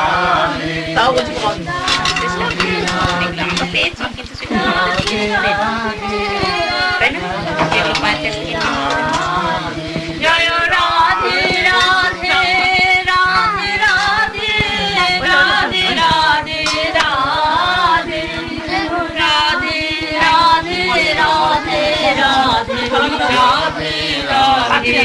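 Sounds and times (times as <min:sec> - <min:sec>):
voices singing devotional chant: 0:00.0 - 0:25.0.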